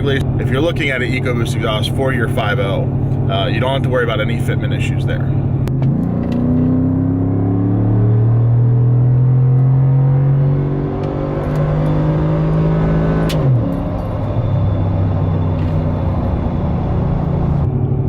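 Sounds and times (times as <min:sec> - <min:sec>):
truck engine accelerating: 0:00.0 - 0:18.0
tyre road noise: 0:00.0 - 0:18.0.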